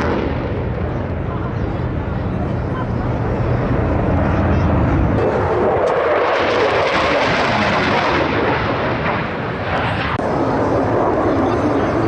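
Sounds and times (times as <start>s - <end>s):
aircraft rushing noise in flight: 0.0s - 12.0s.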